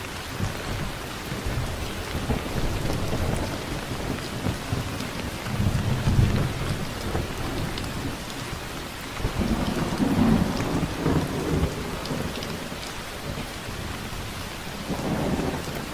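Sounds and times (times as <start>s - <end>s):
heavy rain: 0.0s - 15.9s
thunder rumbling: 0.3s - 15.9s.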